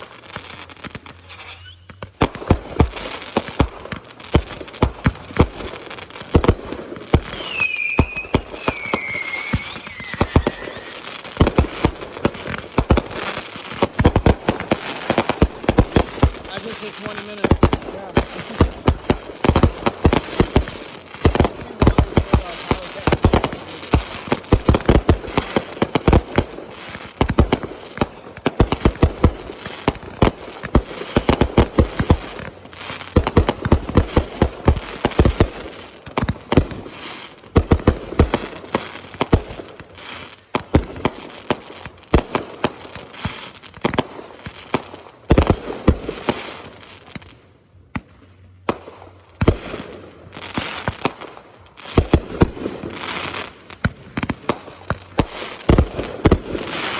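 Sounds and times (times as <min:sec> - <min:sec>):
fireworks bangs and crackle: 0:00.0 - 0:56.9.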